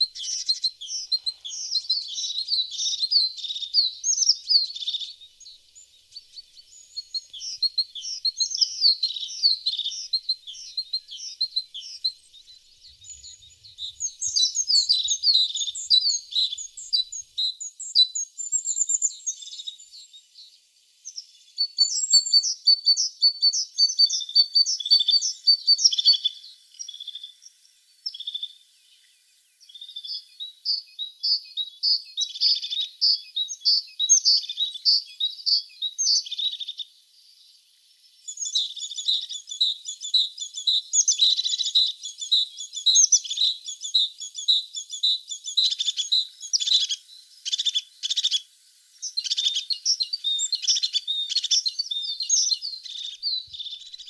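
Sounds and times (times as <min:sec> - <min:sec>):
bird singing chirps and trills: 0:00.0 - 0:54.0.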